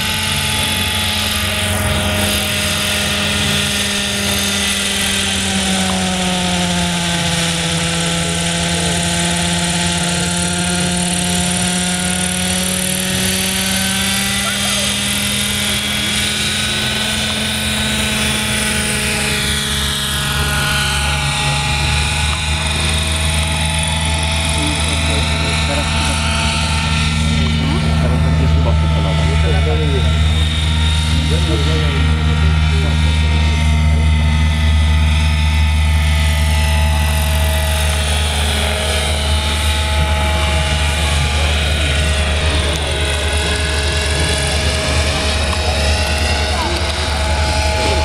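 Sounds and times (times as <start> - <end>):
high whine falling in pitch: 0.0 - 48.0
model helicopter engine and rotor: 0.0 - 48.0.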